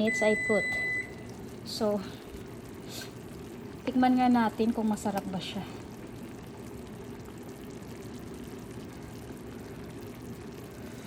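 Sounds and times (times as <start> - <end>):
pot bubbling: 0.0 - 11.0.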